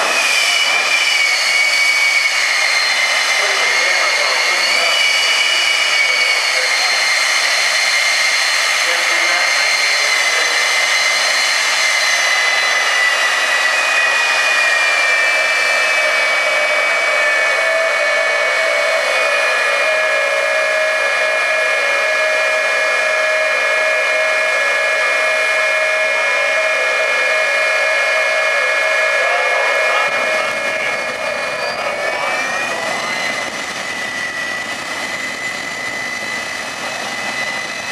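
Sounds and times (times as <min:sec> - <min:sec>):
jet engine whining: 0:00.0 - 0:37.9.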